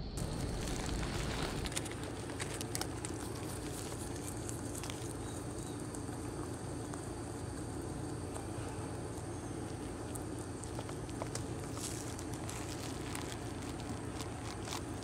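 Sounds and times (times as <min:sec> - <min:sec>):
rabbit chewing leaves: 0:00.0 - 0:15.0.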